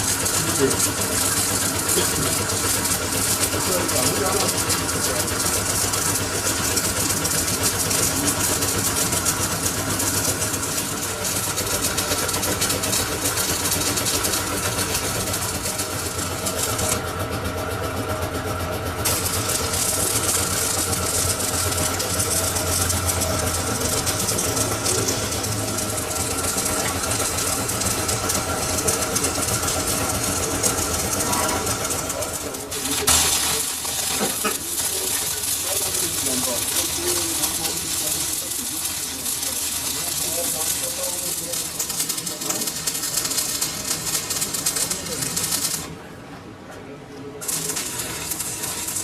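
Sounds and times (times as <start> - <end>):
lathe motor humming: 0.0 - 46.6, 47.4 - 49.0.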